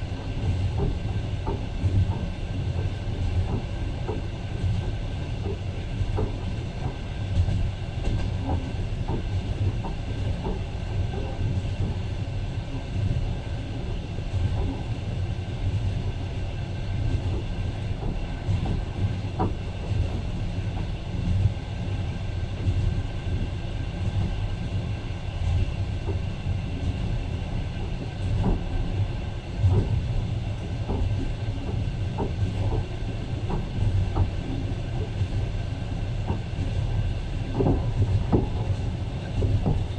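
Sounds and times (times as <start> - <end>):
train clicks and knocks: 0.0 - 39.9
train wheels rumbling on track: 0.0 - 39.9.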